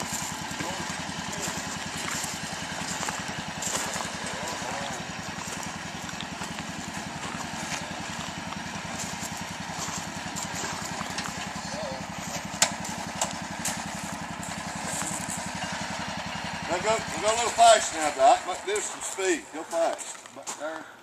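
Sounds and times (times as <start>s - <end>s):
small engine puttering: 0.0s - 21.0s.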